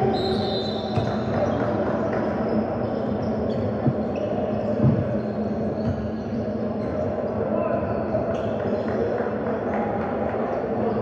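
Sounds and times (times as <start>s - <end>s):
hubbub of players and spectators: 0.0s - 11.0s.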